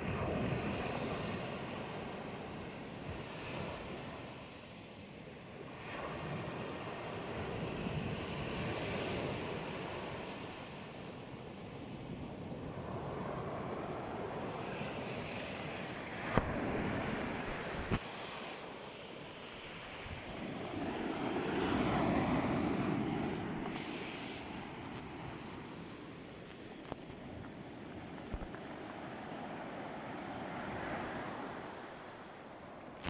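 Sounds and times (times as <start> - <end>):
surf washing onto shore: 0.0 - 33.0.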